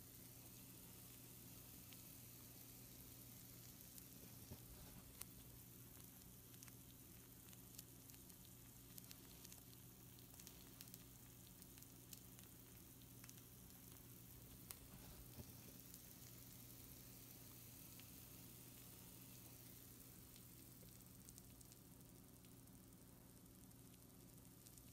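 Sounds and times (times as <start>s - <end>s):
food sizzling on baking sheet: 0.0s - 24.9s
low steady hum: 0.0s - 24.9s.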